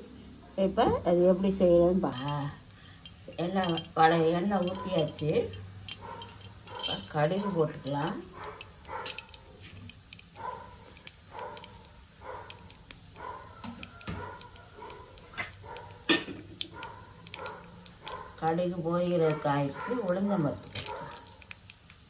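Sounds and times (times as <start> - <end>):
seeds sizzling and popping in oil: 1.3 - 22.0.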